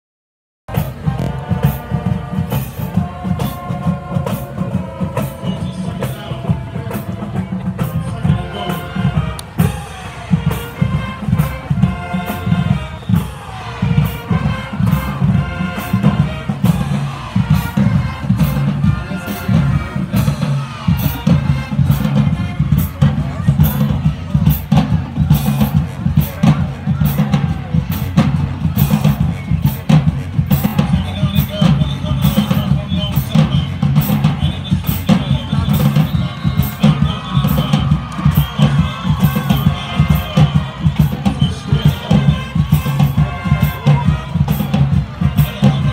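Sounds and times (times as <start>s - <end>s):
brass and sousaphones: 0.7s - 45.9s
crowd voices: 0.7s - 45.9s
driving drum beat: 0.7s - 45.9s
marching band playing: 0.7s - 45.9s.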